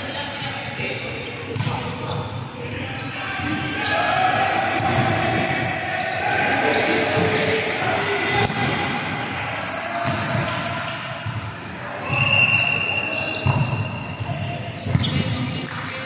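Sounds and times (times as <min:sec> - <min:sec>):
players' voices in a hall: 0:00.0 - 0:16.0.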